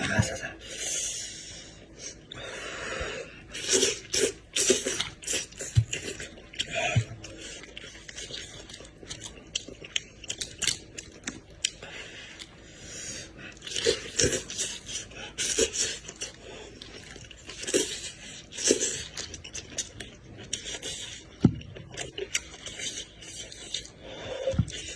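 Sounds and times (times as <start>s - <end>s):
person chewing and smacking: 3.6s - 12.6s, 13.4s - 24.9s.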